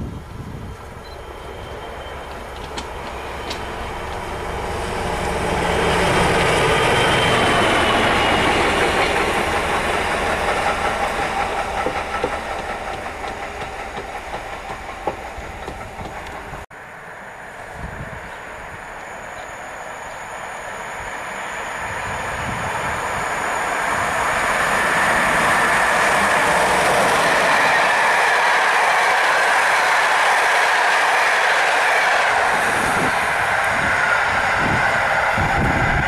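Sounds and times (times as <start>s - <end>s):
train passing on rails: 0.0s - 36.0s.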